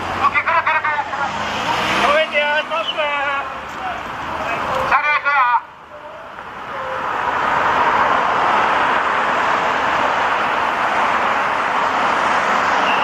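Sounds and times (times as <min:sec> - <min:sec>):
vehicles driving past: 0:00.0 - 0:13.0.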